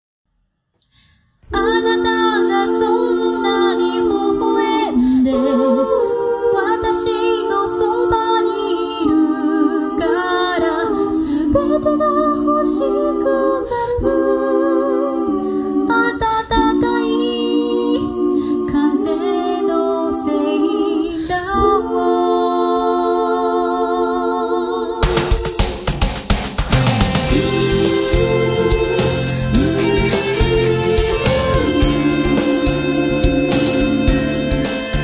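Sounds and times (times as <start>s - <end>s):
female vocal harmony: 1.5s - 25.1s, 27.3s - 35.0s.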